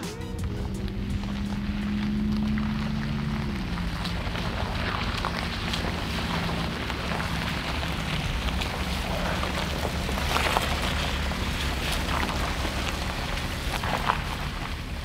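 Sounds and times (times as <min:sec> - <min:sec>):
car engine hum: 0:00.0 - 0:15.0
wind and tyre noise: 0:00.3 - 0:15.0.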